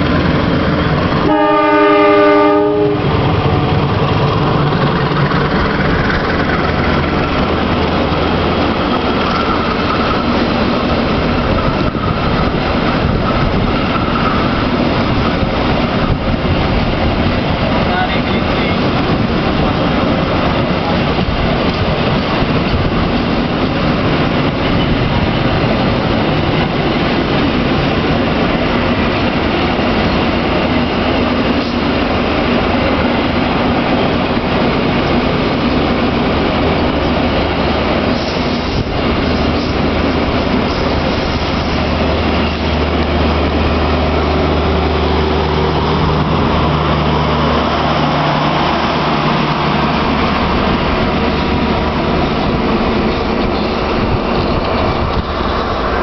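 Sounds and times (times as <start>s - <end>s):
train wheel and rail noise: 0.0s - 56.0s.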